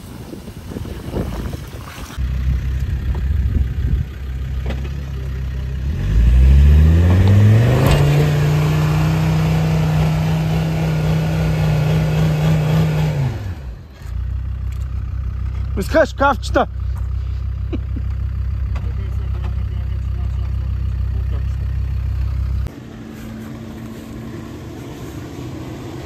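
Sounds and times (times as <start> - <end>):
diesel engine revving: 2.2 - 26.0.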